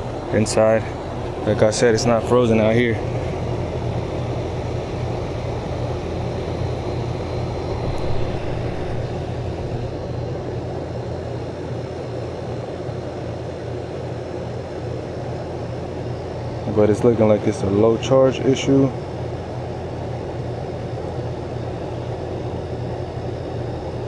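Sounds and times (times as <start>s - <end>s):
compressor low hum: 0.0s - 24.0s
condenser fan whoosh: 0.0s - 24.0s.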